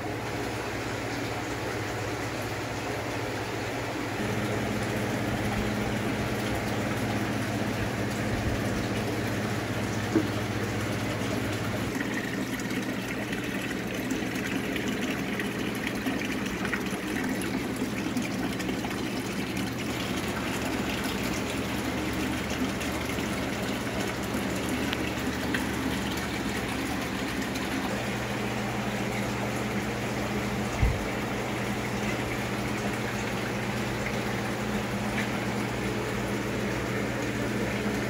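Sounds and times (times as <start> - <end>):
low steady hum: 0.0 - 38.0
rushing water: 0.0 - 38.0.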